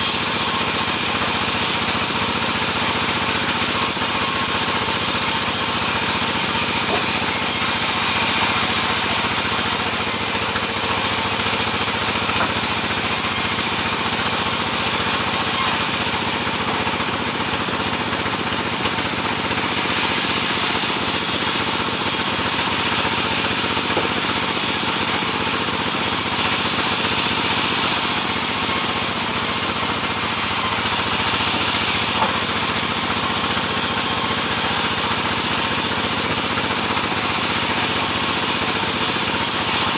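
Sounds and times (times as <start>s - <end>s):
sawmill sawing wood: 0.0s - 39.9s.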